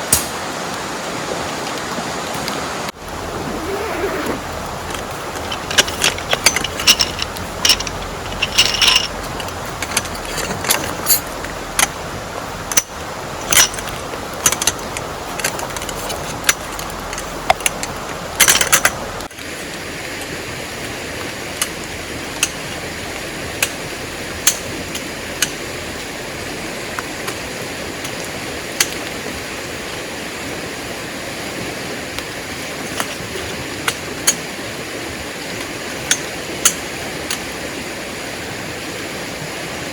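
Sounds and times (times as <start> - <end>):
heavy rain: 0.0 - 39.9
river water running: 0.0 - 39.9.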